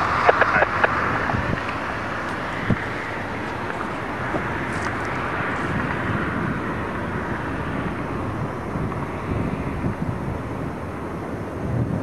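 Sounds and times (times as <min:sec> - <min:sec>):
distant freight train rumble: 0:00.0 - 0:12.0.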